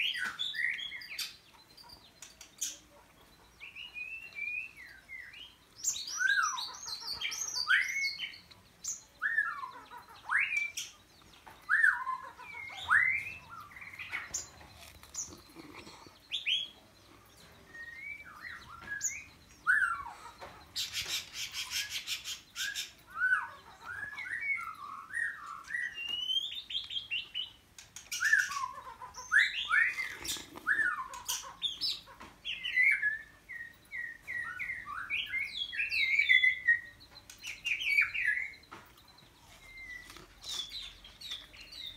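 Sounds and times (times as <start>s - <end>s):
bird whistling song: 0.0s - 2.8s, 3.6s - 16.8s, 17.4s - 41.9s.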